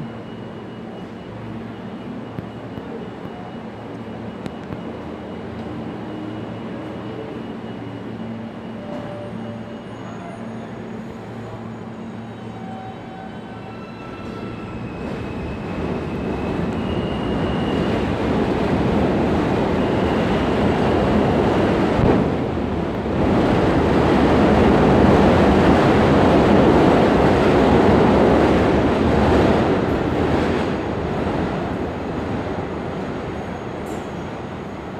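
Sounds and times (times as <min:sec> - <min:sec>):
subway train motor tones: 0:00.0 - 0:34.9.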